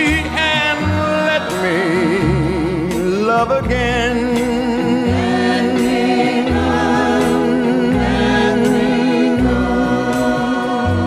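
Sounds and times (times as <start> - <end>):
bass line: 0.0 - 11.0
choir-like vocal ballad: 0.0 - 11.0.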